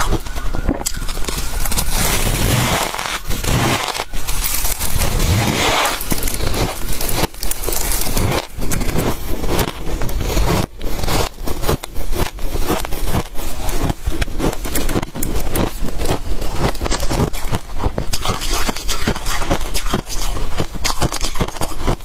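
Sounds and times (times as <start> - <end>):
frost crunching while chewed: 0.0 - 22.0.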